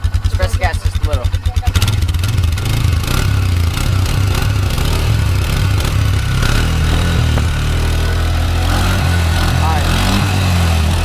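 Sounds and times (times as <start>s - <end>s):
atv engine running above idle: 0.0s - 11.0s.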